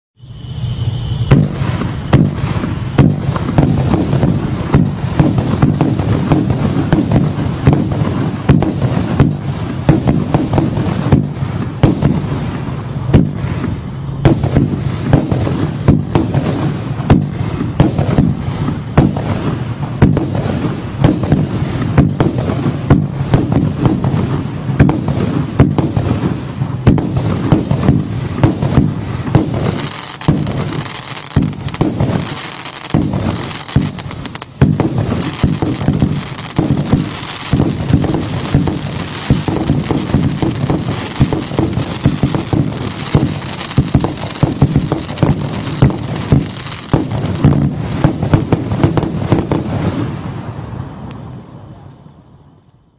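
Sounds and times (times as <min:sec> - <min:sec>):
hissing crackle: 0:00.2 - 0:51.4
firework barrage: 0:00.2 - 0:51.8.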